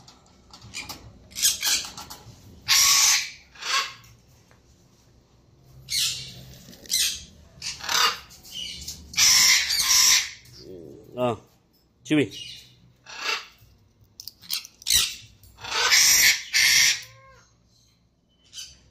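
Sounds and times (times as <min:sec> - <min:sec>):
parrots squawking: 0:00.6 - 0:04.2, 0:05.9 - 0:11.0, 0:12.3 - 0:18.9.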